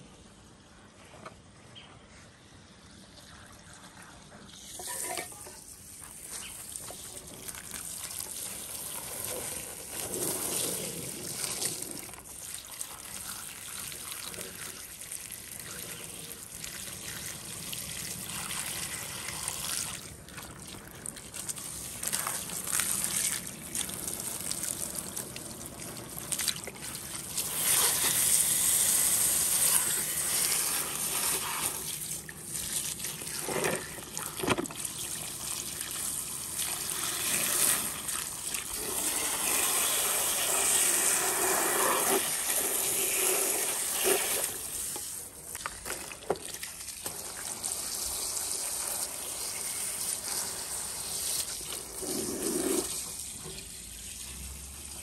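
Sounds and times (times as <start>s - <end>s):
water trickling and splashing: 2.4s - 55.0s.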